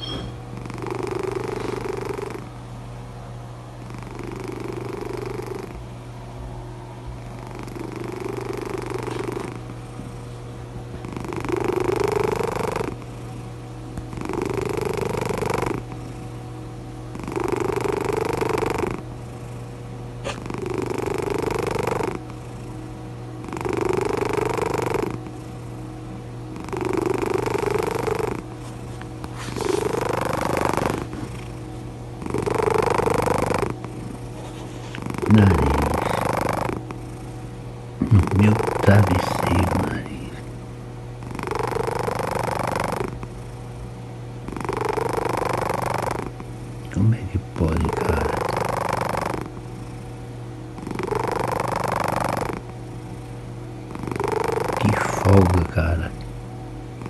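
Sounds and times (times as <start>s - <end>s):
cat snoring: 0.0s - 2.5s, 3.8s - 5.8s, 7.2s - 10.3s, 10.9s - 16.4s, 17.1s - 25.8s, 26.5s - 56.2s.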